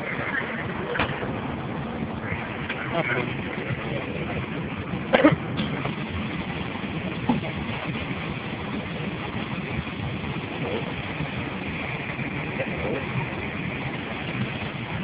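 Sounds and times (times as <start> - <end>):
airplane cabin roar: 0.0 - 15.0.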